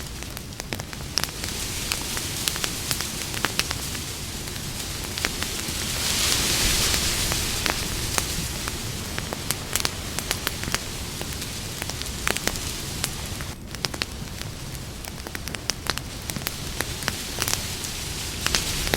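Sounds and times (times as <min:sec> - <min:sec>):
campfire crackling: 0:00.0 - 0:18.9.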